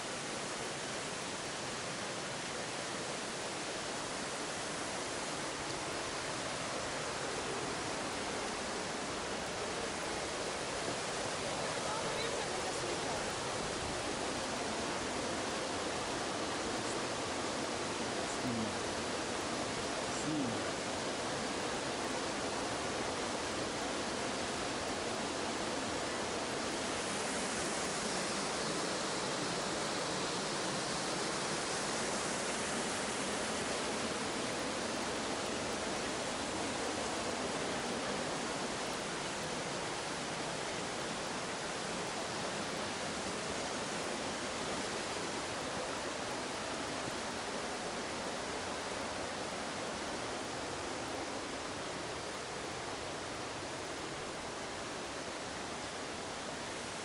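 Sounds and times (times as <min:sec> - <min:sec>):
stream and waterfalls rushing: 0:00.0 - 0:57.0.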